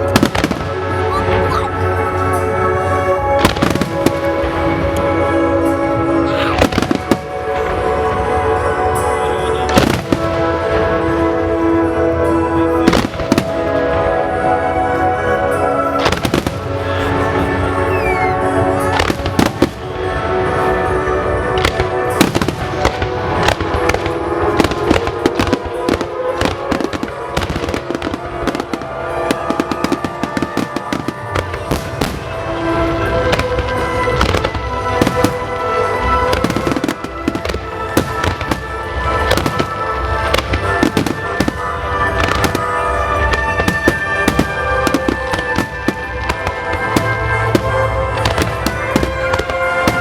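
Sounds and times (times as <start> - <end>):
fireworks bursting and crackling: 0.0 - 50.0
loud music: 0.0 - 50.0.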